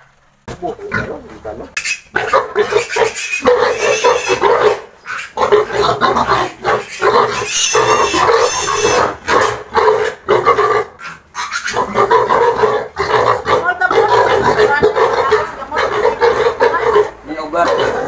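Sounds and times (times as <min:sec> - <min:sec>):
piglets squealing: 0:00.7 - 0:16.8.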